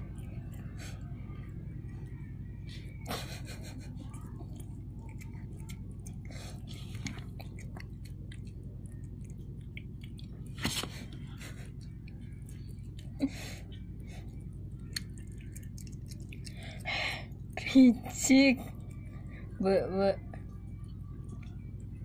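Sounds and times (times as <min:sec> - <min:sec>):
cat chewing: 0:00.0 - 0:19.6
steady low hum: 0:00.0 - 0:22.0.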